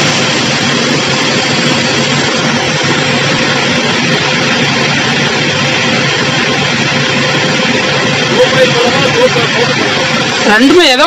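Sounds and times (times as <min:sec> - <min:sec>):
motor and pump hum: 0:00.0 - 0:11.0
pressure washer jet hissing: 0:00.0 - 0:11.0.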